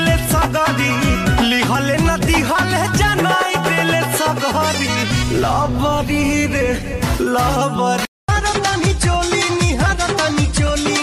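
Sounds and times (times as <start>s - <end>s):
song with drum beat and bass: 0.0s - 11.0s.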